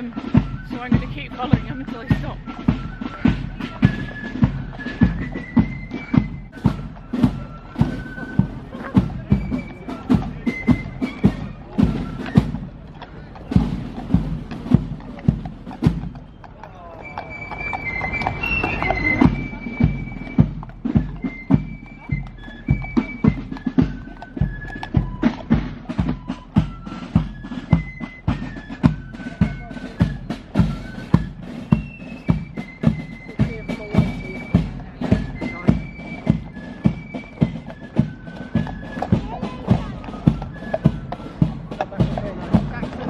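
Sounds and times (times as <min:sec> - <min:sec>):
military band march music: 0:00.0 - 0:43.0.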